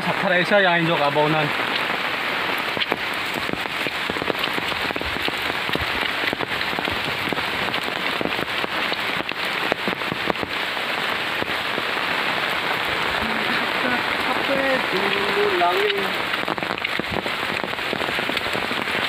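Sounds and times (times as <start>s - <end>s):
raindrops ticking close by: 0.0s - 19.0s
steady rain: 0.0s - 19.0s.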